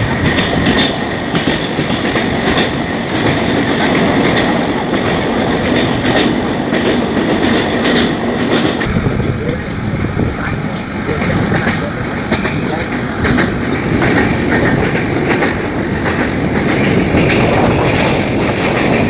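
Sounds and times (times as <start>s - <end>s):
train wheels roaring on rails: 0.0s - 19.0s
wheels clacking over rail joints: 0.0s - 19.0s.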